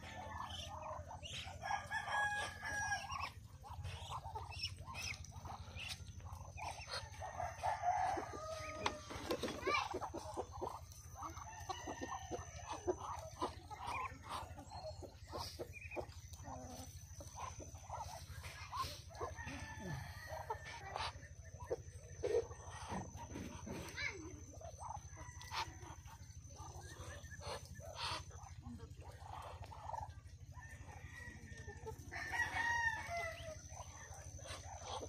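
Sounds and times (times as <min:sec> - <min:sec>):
poultry clucking: 0:00.0 - 0:35.0
steady low hum: 0:00.0 - 0:35.0.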